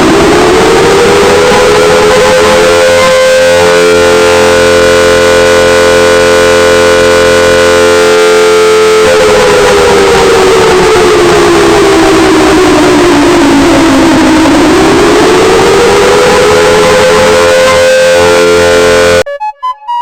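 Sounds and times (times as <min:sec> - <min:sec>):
civil defense siren: 0:00.0 - 0:19.3.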